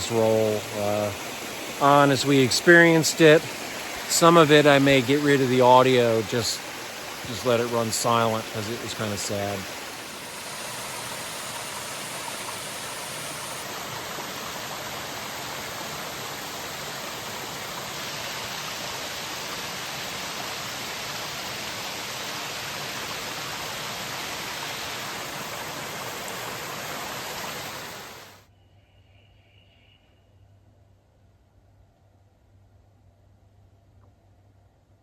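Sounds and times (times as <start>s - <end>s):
stream water rushing: 0.0s - 28.4s.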